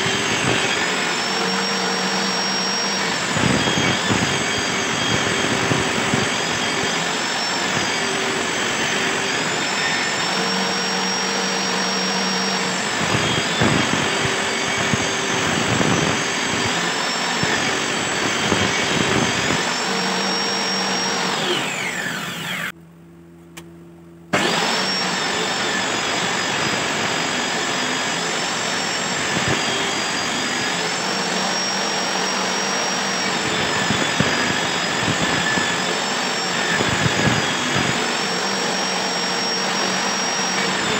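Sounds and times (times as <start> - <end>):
table saw cutting wood: 0.0 - 22.7, 24.3 - 40.9.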